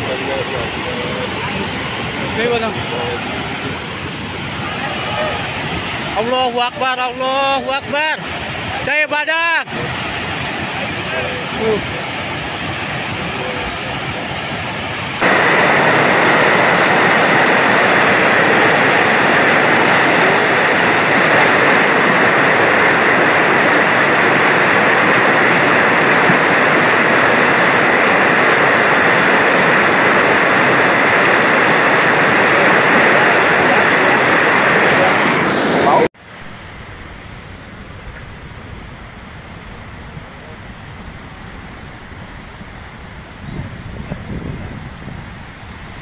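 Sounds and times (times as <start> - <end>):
flood water rushing: 0.0 - 46.0.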